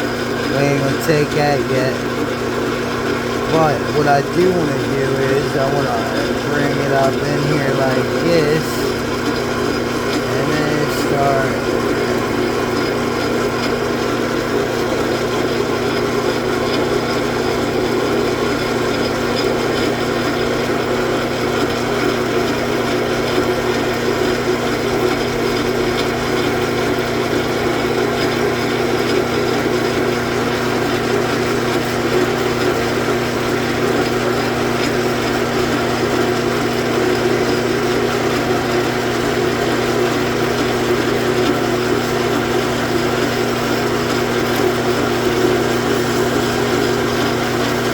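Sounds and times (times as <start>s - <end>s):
lathe motor humming: 0.0s - 47.9s.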